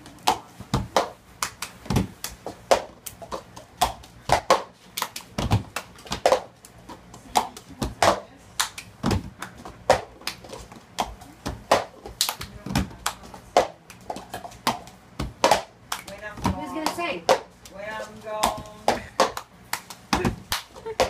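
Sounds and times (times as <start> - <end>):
hand claps: 0.2 - 6.7, 7.4 - 17.8, 18.4 - 21.0.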